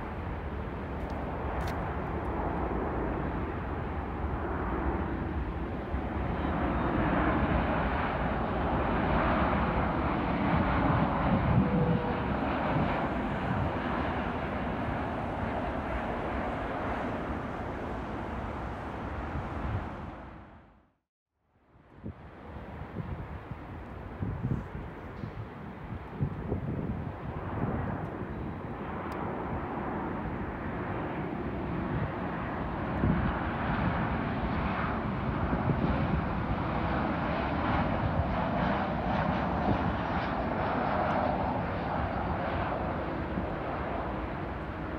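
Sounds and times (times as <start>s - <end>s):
jet engines roaring: 0.0s - 20.7s, 22.3s - 44.9s.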